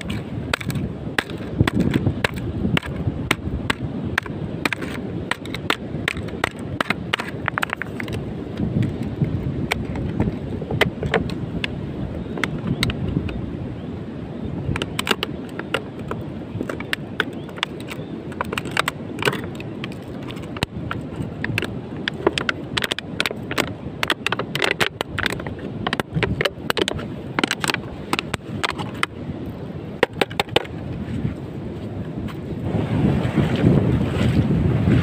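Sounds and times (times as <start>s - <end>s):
low rush of wind: 0.0s - 35.0s.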